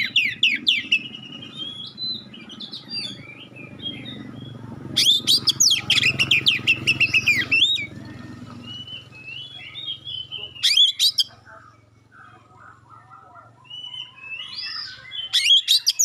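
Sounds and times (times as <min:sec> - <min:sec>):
magpie-robin singing: 0:00.0 - 0:16.0.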